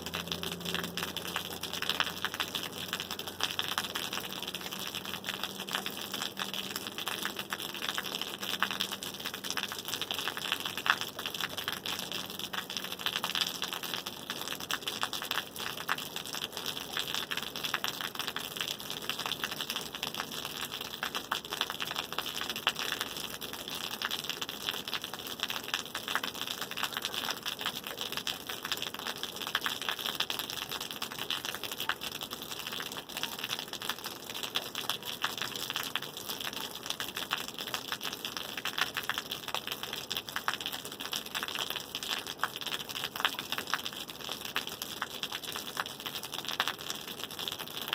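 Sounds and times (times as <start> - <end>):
steady rain patter: 0.0 - 47.9.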